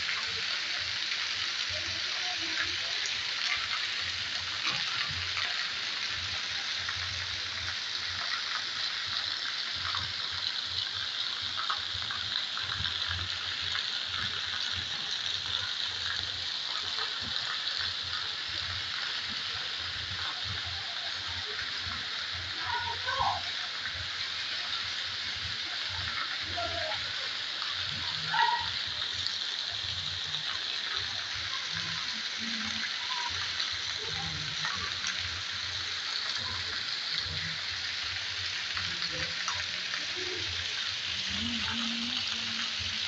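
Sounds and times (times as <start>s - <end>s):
heavy rain on pavement: 0.0s - 43.0s.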